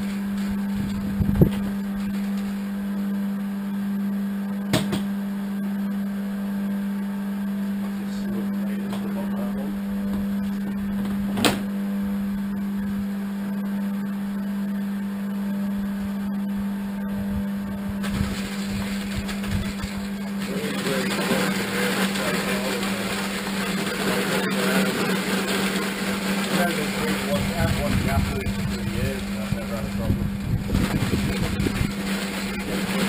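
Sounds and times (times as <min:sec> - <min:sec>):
electric motor humming: 0:00.0 - 0:33.0.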